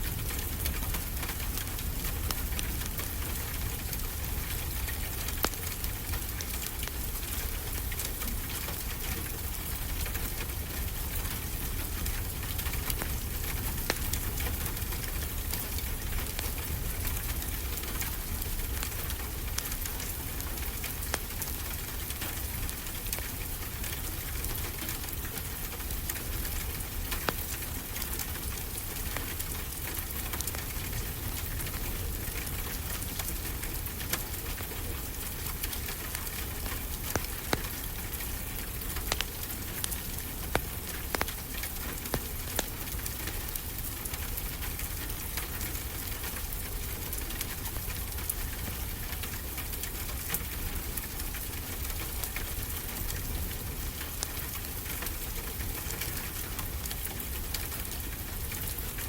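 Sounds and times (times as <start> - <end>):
rain falling on a surface: 0.0 - 59.0
wood fire crackling: 0.0 - 59.0.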